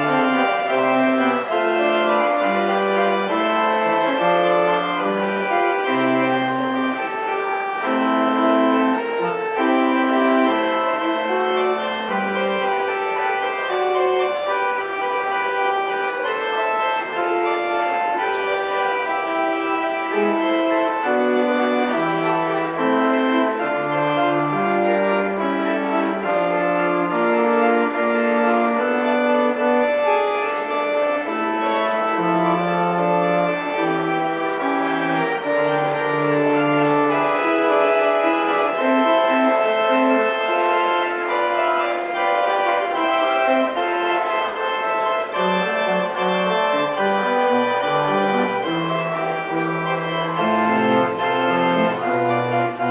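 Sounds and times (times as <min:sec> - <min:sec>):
organ playing chords: 0:00.0 - 0:52.9.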